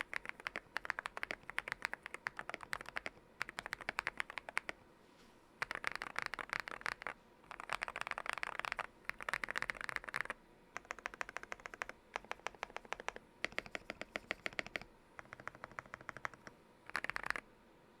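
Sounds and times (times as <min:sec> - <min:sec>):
mechanical keyboard typing: 0:00.0 - 0:04.8, 0:05.6 - 0:17.4.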